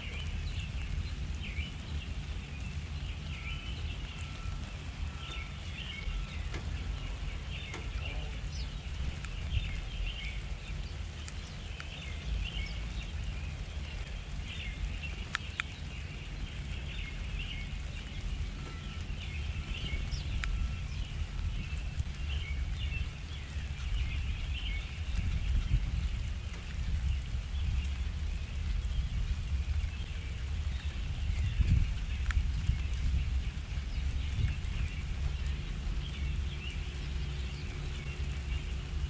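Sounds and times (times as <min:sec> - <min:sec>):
small birds chirping: 0:00.0 - 0:39.0
steady low rumble: 0:00.0 - 0:39.0.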